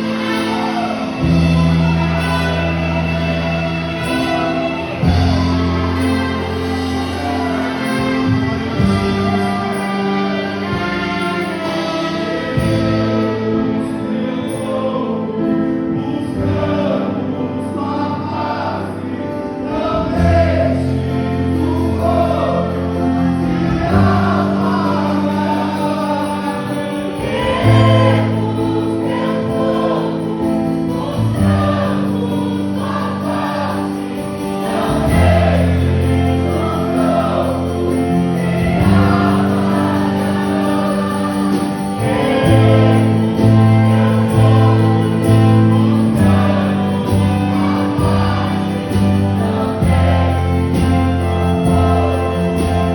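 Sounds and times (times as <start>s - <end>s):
choir singing gospel music: 0.0s - 52.9s.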